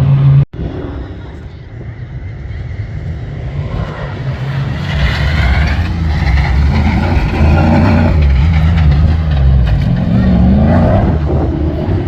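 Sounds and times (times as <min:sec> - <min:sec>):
engine running under throttle: 0:00.0 - 0:12.0.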